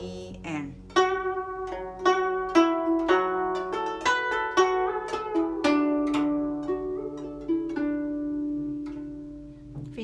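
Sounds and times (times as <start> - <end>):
plucked zither notes: 0.0 - 10.0
sustained low bass string: 0.0 - 10.0.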